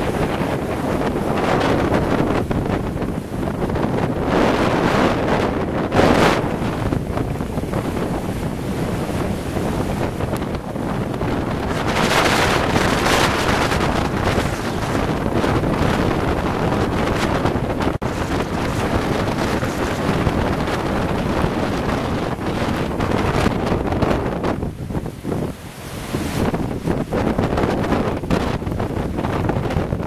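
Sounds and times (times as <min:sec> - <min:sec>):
waves breaking: 0:00.0 - 0:30.0
wind buffeting microphone: 0:00.0 - 0:30.0.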